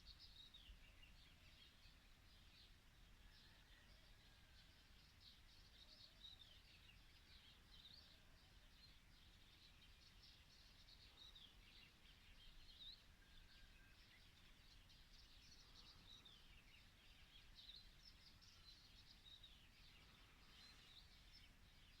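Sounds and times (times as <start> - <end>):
small birds chirping and twittering: 0.0 - 22.0.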